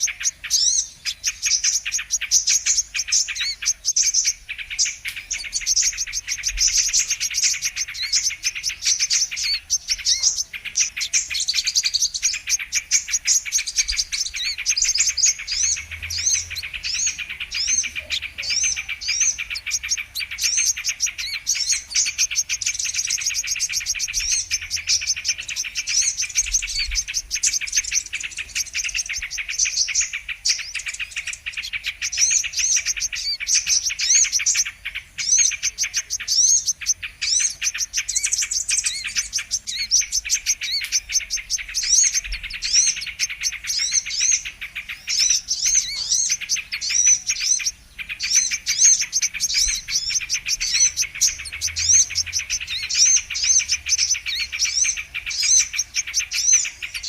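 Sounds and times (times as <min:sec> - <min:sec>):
high rapid bird chirping: 0:00.0 - 0:57.0.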